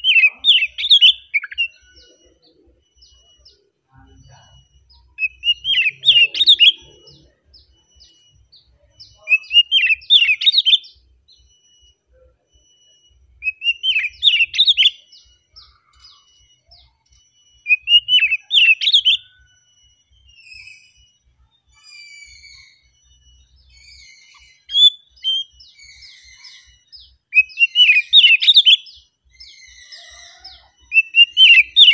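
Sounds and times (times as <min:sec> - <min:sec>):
bird singing whistled phrases: 0:00.0 - 0:31.9.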